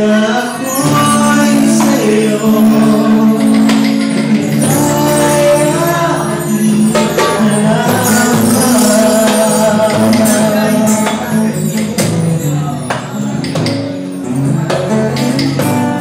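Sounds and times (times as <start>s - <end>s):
guitar: 0.0s - 16.0s
hand drums: 0.0s - 16.0s
man singing: 0.0s - 16.0s
sharp percussion strikes: 0.0s - 16.0s.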